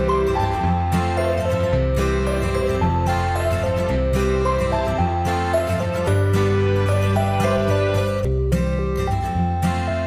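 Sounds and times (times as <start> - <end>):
gentle melody with bass line: 0.0 - 10.0.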